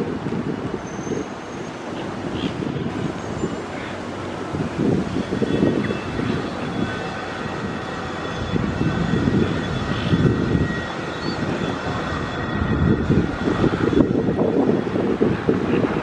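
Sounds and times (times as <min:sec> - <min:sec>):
faint city background noise: 0:00.0 - 0:16.0
wind buffeting microphone: 0:00.0 - 0:16.0.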